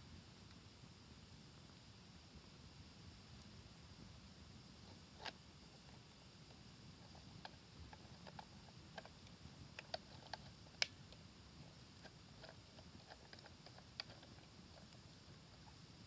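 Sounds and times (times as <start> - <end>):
wood fire crackling: 0.3 - 16.0.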